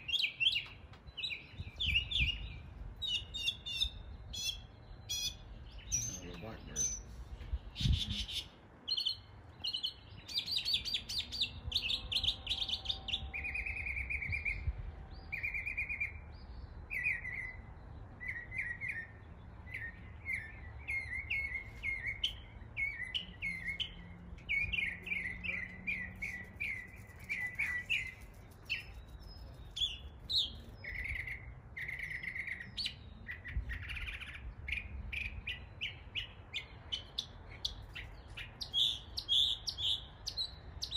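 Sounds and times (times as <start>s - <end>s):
mockingbird singing: 0.0s - 40.9s.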